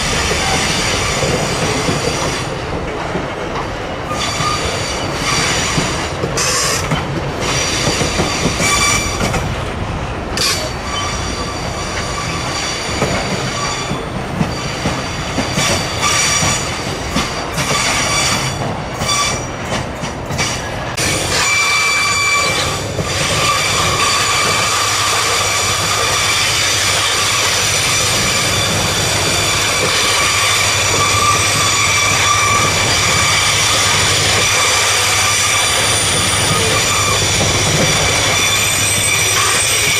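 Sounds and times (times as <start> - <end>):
train wheels squealing on rails: 0.0 - 2.7, 3.8 - 9.6, 10.3 - 39.9.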